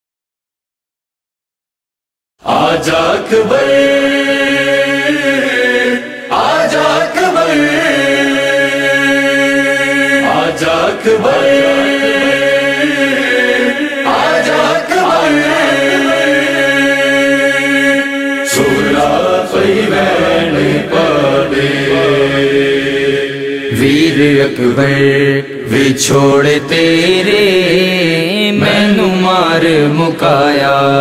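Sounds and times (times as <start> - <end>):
chorus chanting held notes: 2.4 - 31.0.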